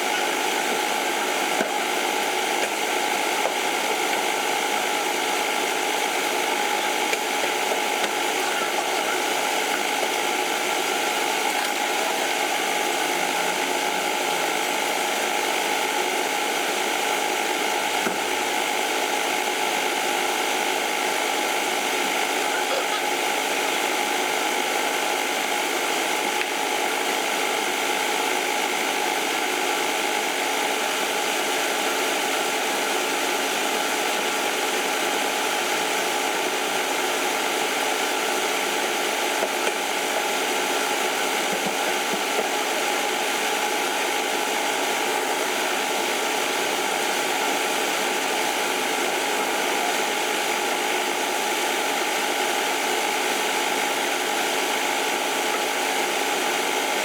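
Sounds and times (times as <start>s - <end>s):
machine running with hum: 0.0s - 57.0s.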